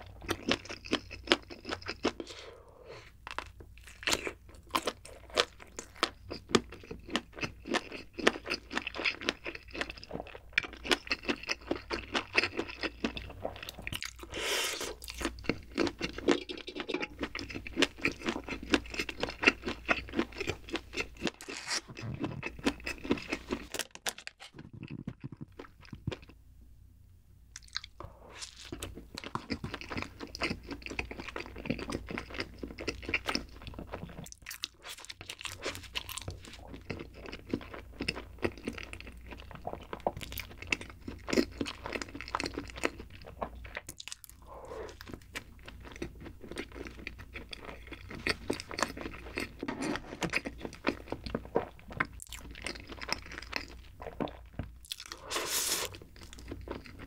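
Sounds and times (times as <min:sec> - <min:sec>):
chewing food: 0:00.0 - 0:23.7, 0:24.5 - 0:26.4, 0:27.5 - 0:57.0.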